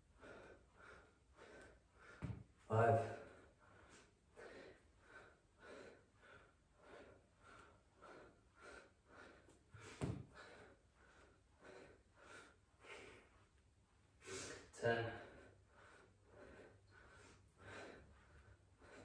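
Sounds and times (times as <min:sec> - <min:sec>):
man breathing hard in puffs: 0:00.0 - 0:19.0.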